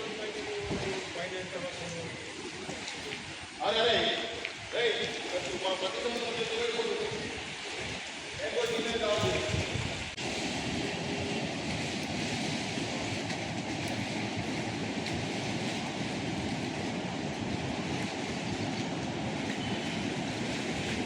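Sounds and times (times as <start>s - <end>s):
rushing river floodwater: 0.0s - 21.0s.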